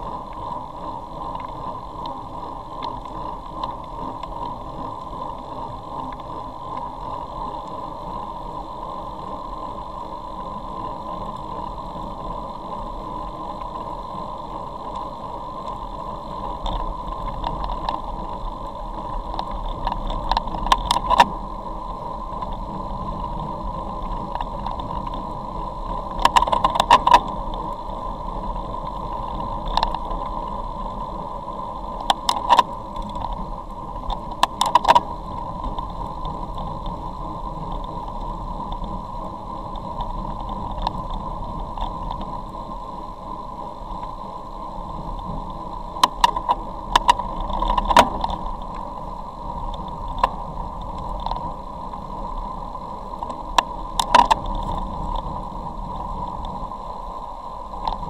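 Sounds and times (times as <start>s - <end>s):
tyre noise on wet road: 0.0s - 58.0s.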